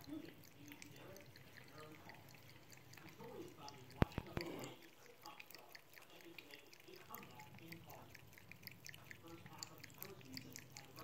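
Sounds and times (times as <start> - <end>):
cat lapping water: 0.0 - 11.0
tap water trickling: 0.0 - 11.0.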